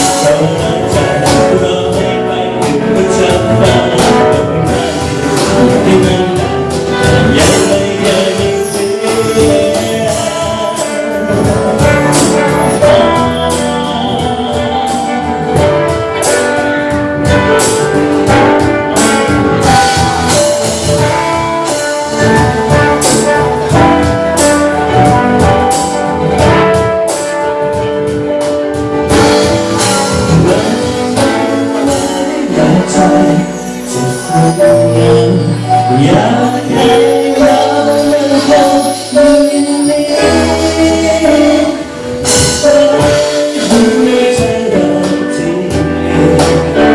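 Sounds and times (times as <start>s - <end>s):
person singing: 0.0s - 27.0s, 29.1s - 46.9s
guitar: 0.0s - 46.9s
trumpet melody: 0.0s - 46.9s.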